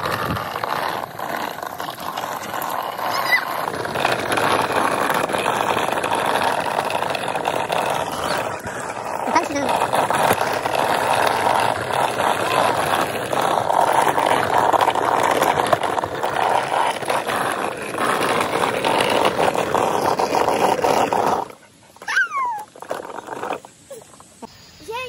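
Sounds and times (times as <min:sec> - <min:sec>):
wheels rolling over asphalt: 0:00.0 - 0:25.0.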